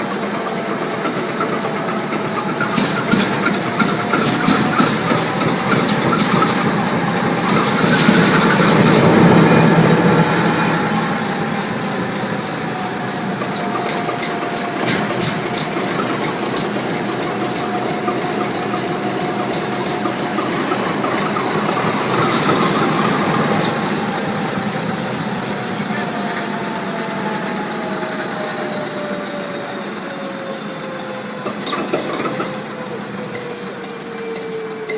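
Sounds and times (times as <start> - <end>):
large diesel engine running: 0.0 - 34.9.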